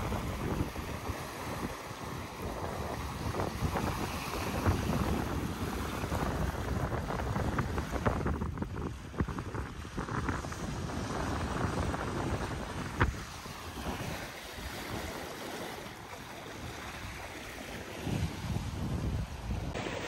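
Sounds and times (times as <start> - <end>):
water rushing past hull: 0.0 - 20.0
wind buffeting microphone: 0.0 - 20.0.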